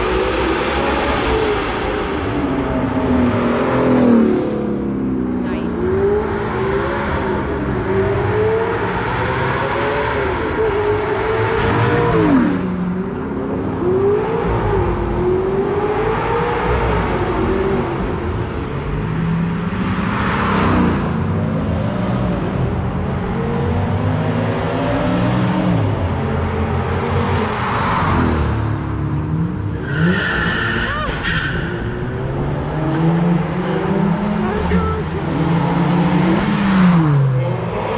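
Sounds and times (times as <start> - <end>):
car engines revving in tunnel: 0.0 - 37.9.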